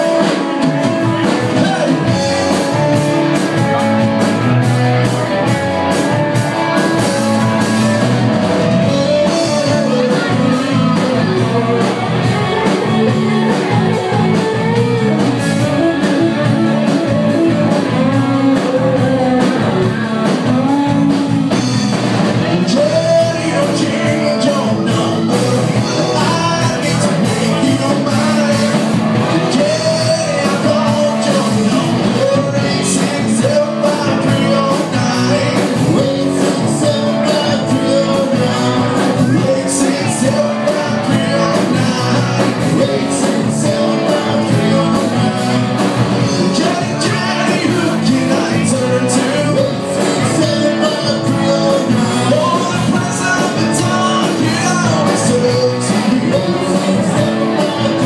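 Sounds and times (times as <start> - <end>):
live rock and roll band: 0.0 - 58.0
person singing: 0.0 - 58.0
steady drum beat: 0.0 - 58.0.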